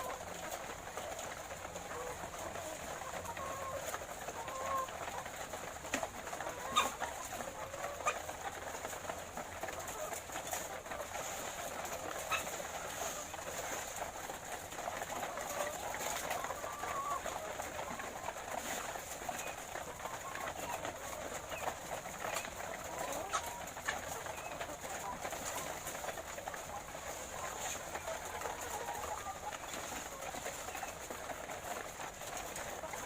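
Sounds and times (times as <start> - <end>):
hens clucking: 0.0 - 33.0.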